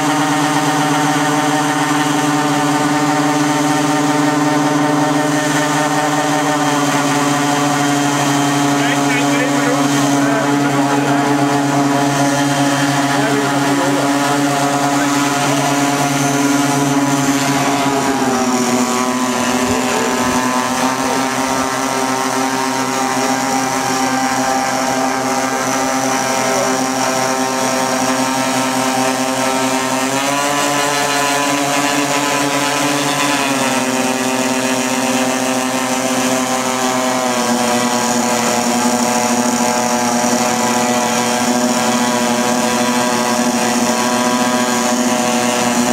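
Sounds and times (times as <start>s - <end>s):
model airplane engines running: 0.0s - 45.9s.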